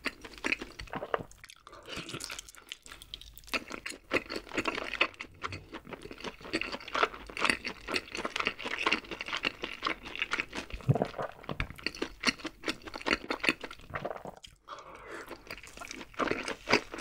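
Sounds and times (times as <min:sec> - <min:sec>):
chewing crunchy fried chicken: 0:00.0 - 0:17.0.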